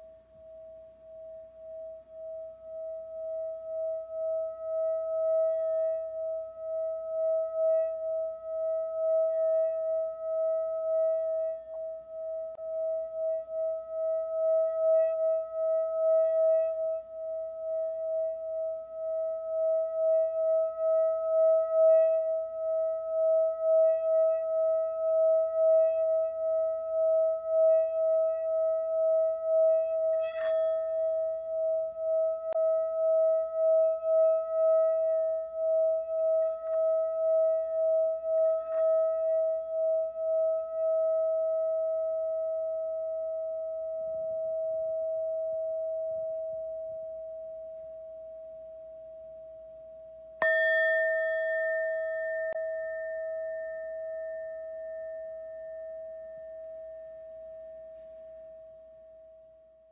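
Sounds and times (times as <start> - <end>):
singing bowl ringing: 0.0 - 59.9.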